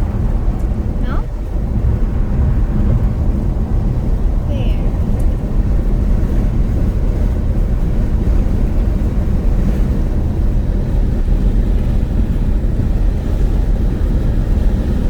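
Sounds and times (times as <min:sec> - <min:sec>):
vehicle road and wind noise: 0:00.0 - 0:15.0
wind buffeting microphone: 0:00.0 - 0:15.0.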